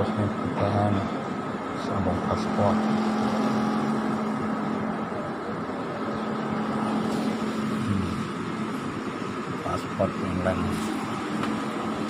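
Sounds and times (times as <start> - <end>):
car engine and road noise: 0.0 - 12.0
constant low hum: 0.0 - 12.0.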